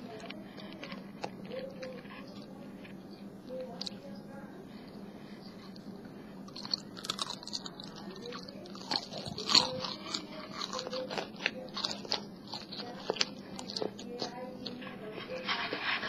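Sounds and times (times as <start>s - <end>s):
person chewing bacon: 0.0s - 4.0s, 4.9s - 16.0s.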